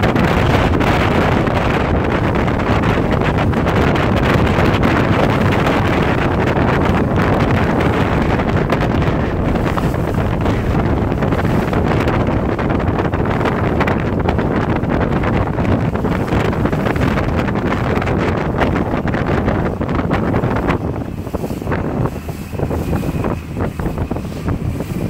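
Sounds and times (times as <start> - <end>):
strong wind on microphone: 0.0 - 25.0.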